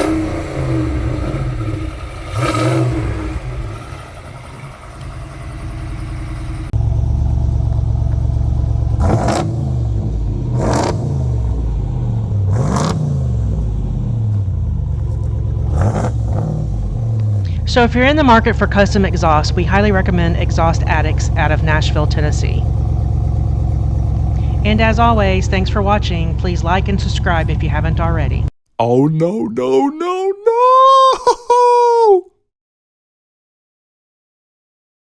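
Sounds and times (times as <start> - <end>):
truck engine idling and revving: 0.0 - 28.5.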